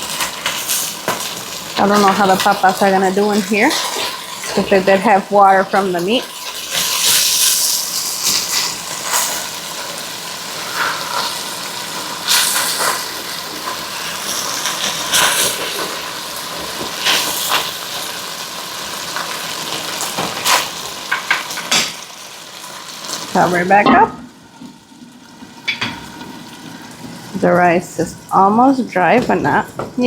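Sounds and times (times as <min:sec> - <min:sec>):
steak and potatoes sizzling in a pan: 0:00.0 - 0:28.9.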